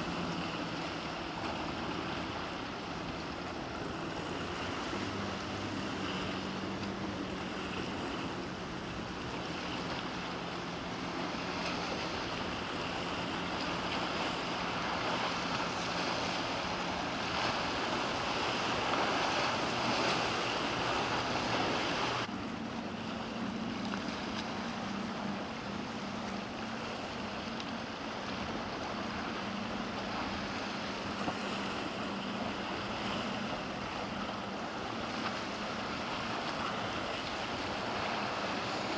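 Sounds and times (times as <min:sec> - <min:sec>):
boat engines droning: 0:00.0 - 0:38.9
surf: 0:00.0 - 0:38.9.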